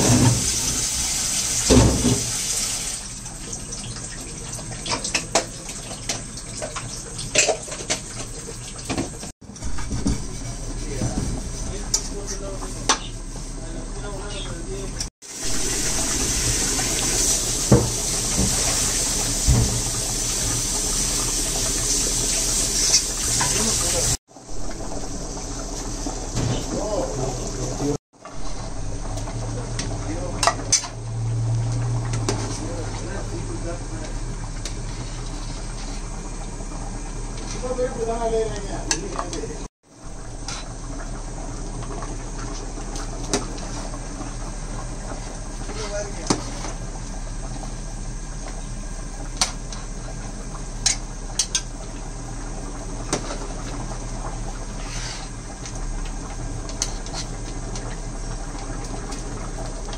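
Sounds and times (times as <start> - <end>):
broth boiling in metal pot: 0.0 - 59.9.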